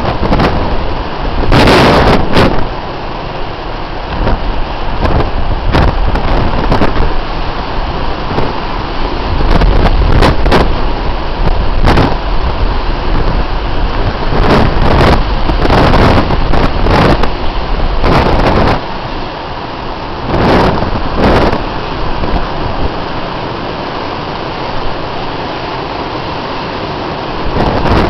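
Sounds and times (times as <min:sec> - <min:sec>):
heavy surf: 0:00.0 - 0:28.0
storm wind blasting microphone: 0:00.0 - 0:28.0.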